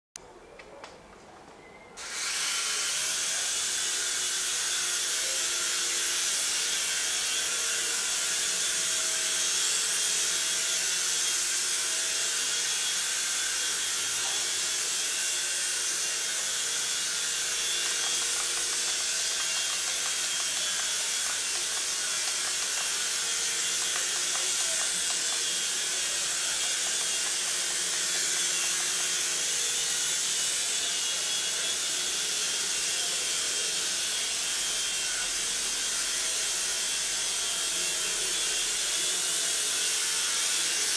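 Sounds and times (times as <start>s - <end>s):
toy helicopter whirring: 2.0s - 40.9s.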